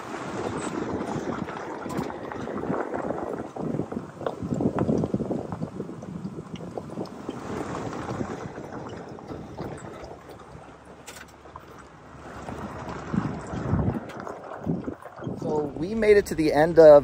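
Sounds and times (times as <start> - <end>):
tyres crunching over gravel: 0.0 - 17.0
vehicle engine running: 0.0 - 17.0
wind on microphone: 0.0 - 17.0.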